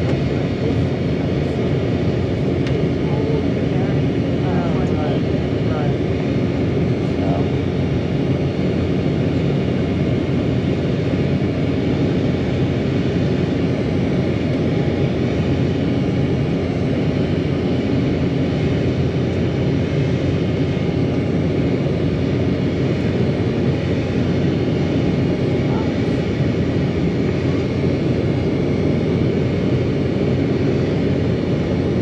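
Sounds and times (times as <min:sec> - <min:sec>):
jet engines roaring in cabin: 0:00.0 - 0:32.0.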